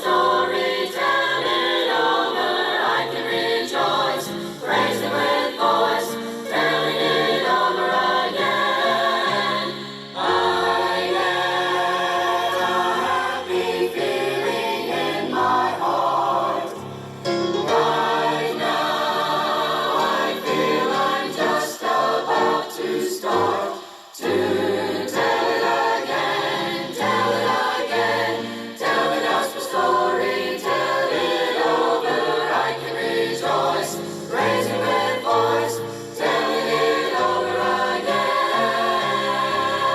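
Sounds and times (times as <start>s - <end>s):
choir singing gospel harmony: 0.0s - 39.9s.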